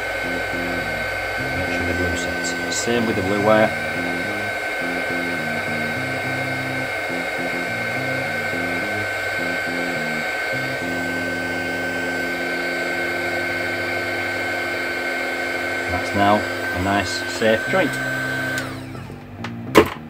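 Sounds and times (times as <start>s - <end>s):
background music: 0.0s - 18.9s
hot air gun fan whine: 0.0s - 19.2s.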